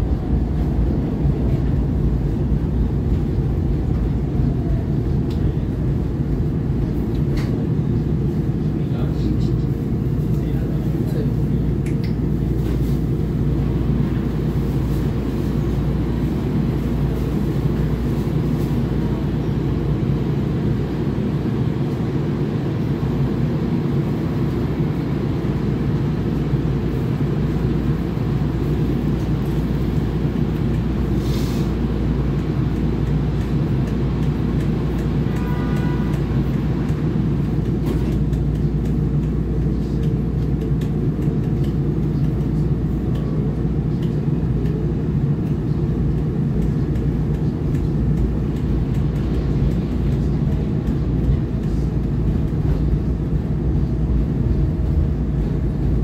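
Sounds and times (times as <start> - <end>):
subway car low hum: 0.0 - 56.0.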